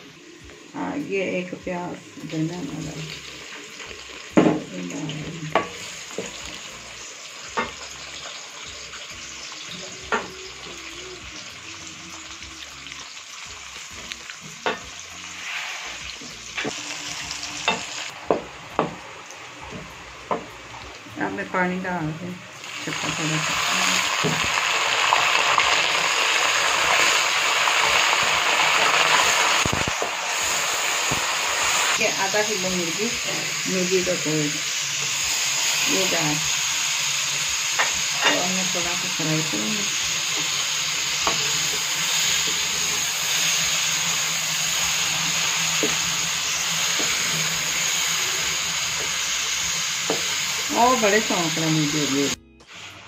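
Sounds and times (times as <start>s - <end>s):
meat sizzling in a wok: 0.0s - 53.0s
water hissing in hot oil: 0.0s - 53.0s.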